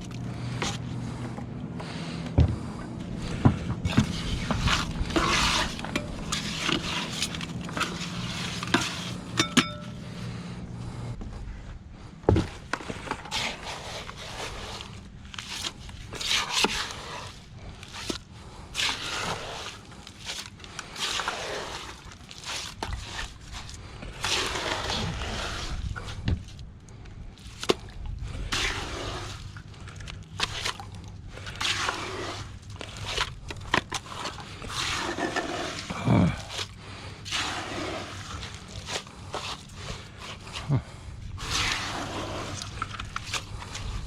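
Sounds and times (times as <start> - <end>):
scraping wet cement: 0.0 - 11.2, 12.3 - 26.6, 27.4 - 44.0.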